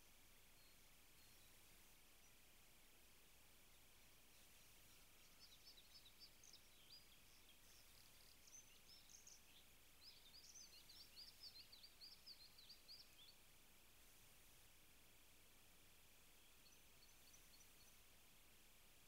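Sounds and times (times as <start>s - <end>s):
songbird chirping: 0.0s - 19.0s
steady hiss: 0.0s - 19.0s.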